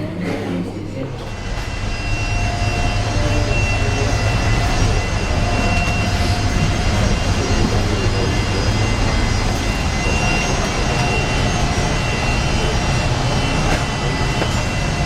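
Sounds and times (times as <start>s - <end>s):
jet engine roar: 1.2s - 15.0s
high steady whining tones: 1.3s - 15.0s.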